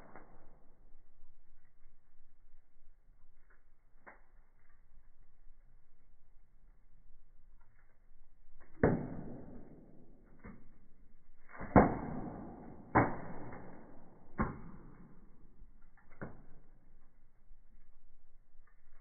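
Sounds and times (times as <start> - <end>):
firewood popping and crackling: 0.0 - 19.0.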